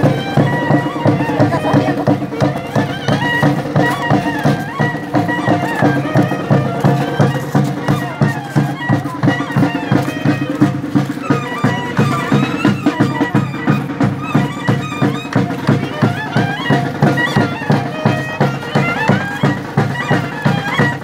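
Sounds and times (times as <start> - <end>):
low drum beat: 0.0 - 21.0
reedy wind melody: 0.0 - 21.0.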